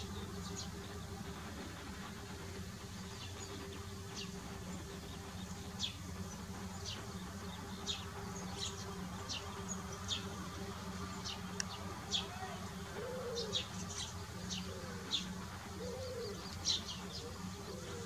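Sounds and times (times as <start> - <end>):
low buzzing hum: 0.0 - 18.0.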